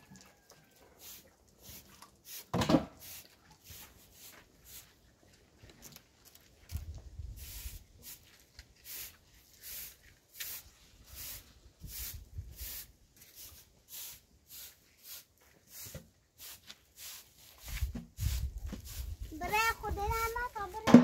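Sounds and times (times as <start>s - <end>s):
straw broom sweeping dusty ground: 0.9s - 5.2s, 6.7s - 21.0s.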